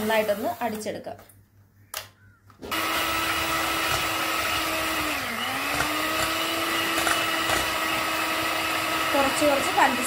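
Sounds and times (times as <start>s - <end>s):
electric hand mixer whisking: 0.0s - 0.9s, 2.7s - 10.0s.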